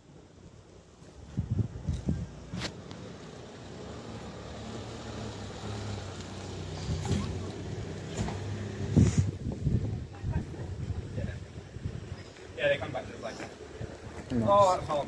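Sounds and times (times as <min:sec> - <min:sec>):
engine humming: 0:00.2 - 0:15.0.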